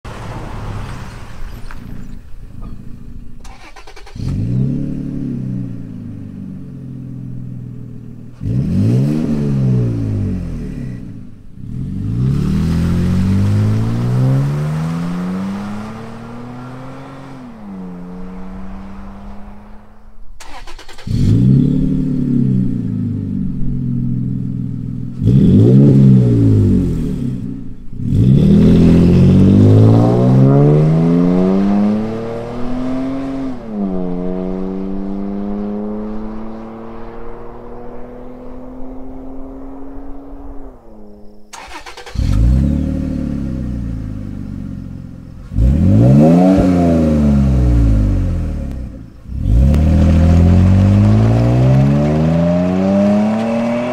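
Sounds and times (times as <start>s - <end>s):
truck engine revving: 0.0s - 39.8s, 41.5s - 53.9s.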